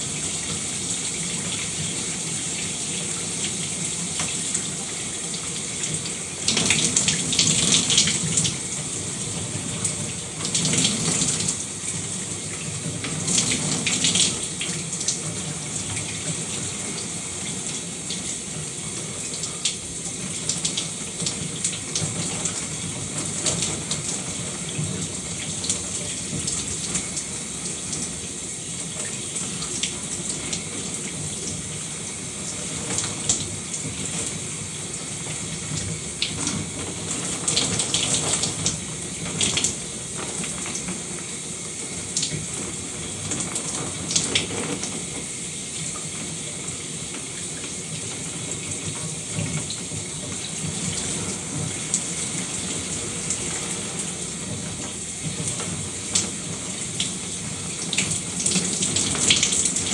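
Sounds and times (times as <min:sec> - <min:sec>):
shower water spray hissing: 0:00.0 - 0:59.9
water splashes: 0:00.0 - 0:59.9.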